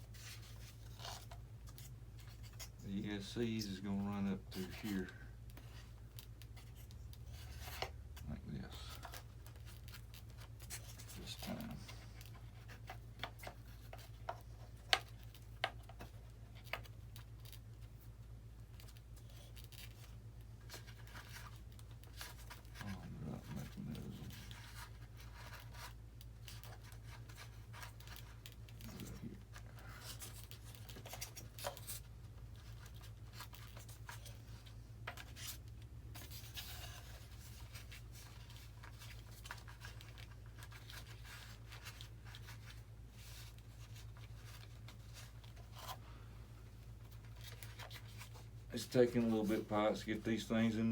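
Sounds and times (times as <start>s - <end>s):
hands handling wire and plastic: 0.0s - 50.9s
steady low hum: 0.0s - 50.9s.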